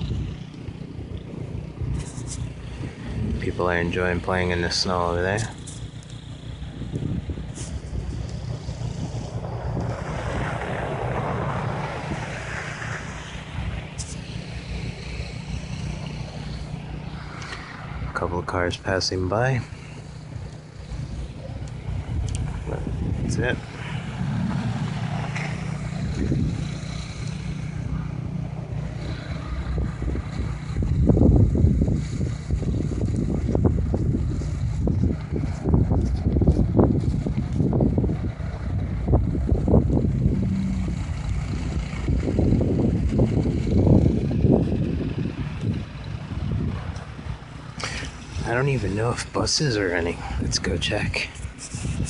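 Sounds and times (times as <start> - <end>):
cars on snowy road: 0.0 - 52.0
wind buffeting microphone: 0.0 - 52.0.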